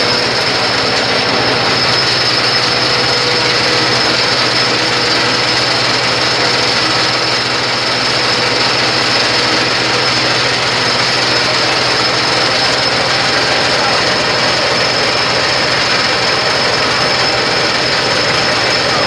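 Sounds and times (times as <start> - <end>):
stone crusher clattering: 0.0 - 19.0.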